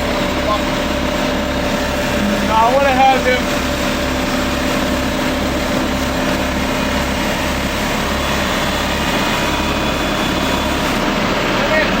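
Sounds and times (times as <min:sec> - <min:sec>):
heavy equipment engine idling: 0:00.0 - 0:12.0.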